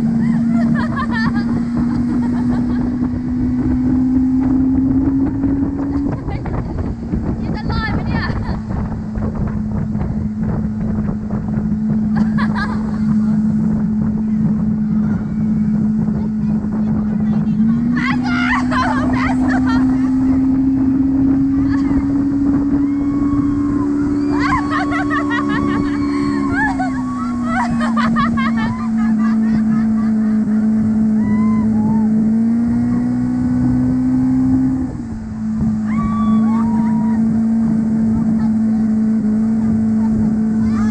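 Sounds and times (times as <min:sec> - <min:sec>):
motorboat engine droning: 0:00.0 - 0:40.9
water rushing: 0:00.0 - 0:40.9
wind buffeting microphone: 0:00.0 - 0:40.9.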